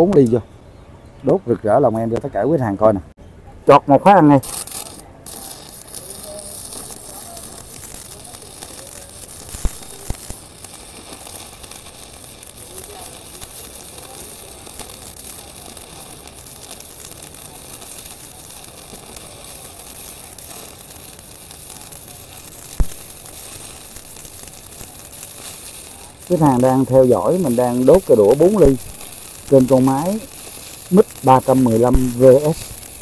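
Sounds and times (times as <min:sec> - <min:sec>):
welding arc crackling: 0:04.1 - 0:33.0.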